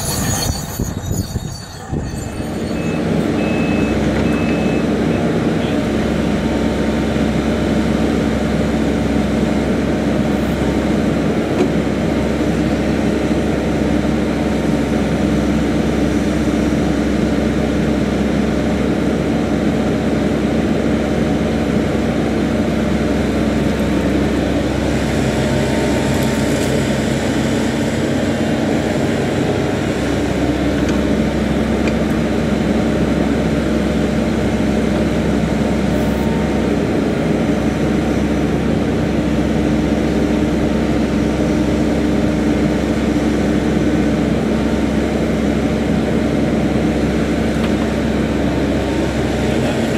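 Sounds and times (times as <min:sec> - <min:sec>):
heavy machinery engine running: 0:00.0 - 0:49.9.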